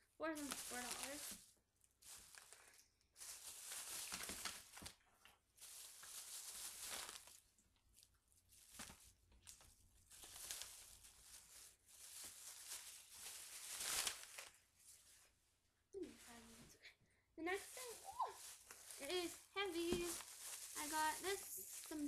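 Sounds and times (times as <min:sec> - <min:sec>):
shopping bags rustling: 0:00.2 - 0:15.3, 0:17.5 - 0:22.0.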